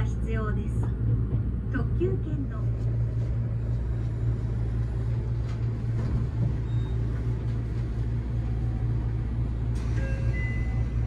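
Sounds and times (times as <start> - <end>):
train cabin hum and rumble: 0.0 - 11.0.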